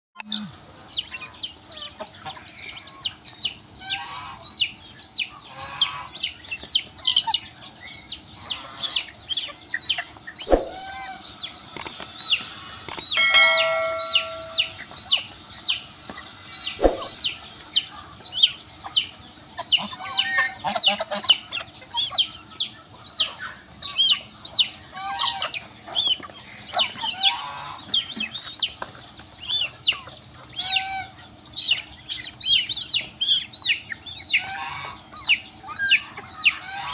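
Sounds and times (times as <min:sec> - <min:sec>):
chickens clucking: 0:00.2 - 0:36.9
chicks peeping: 0:00.2 - 0:36.9.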